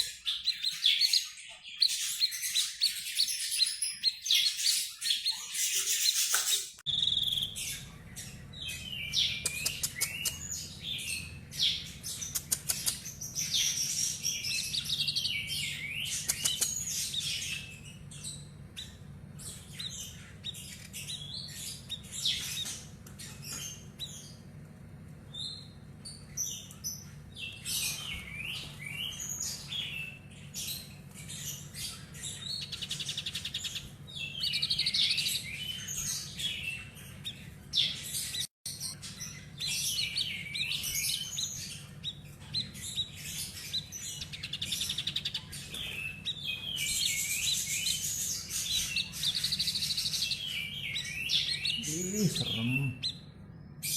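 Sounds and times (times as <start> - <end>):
songbird singing rapid chirps: 0.0 - 53.9
steady low hum: 6.9 - 53.9.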